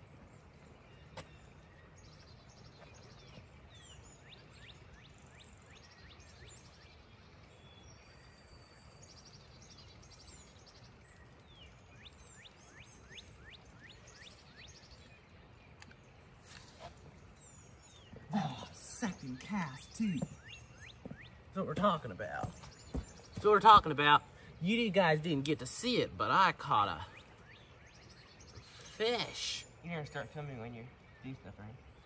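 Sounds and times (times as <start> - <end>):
birds whistling and trilling: 0.0 - 32.0
low steady background noise: 0.0 - 32.0.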